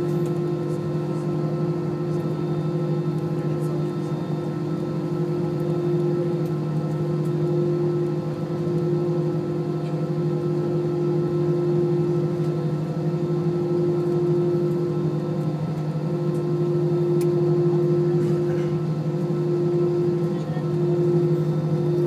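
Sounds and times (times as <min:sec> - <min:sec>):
jet engines droning in cabin: 0:00.0 - 0:22.0.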